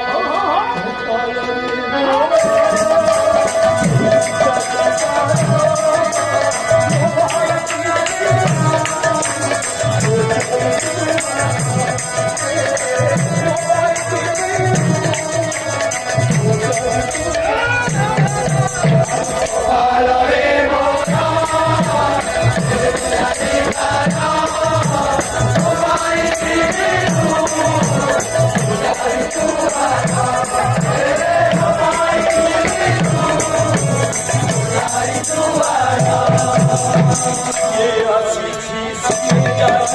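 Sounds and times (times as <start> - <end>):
voices singing devotional song: 0.0 - 39.9
drum beating: 2.4 - 19.9, 20.8 - 37.7.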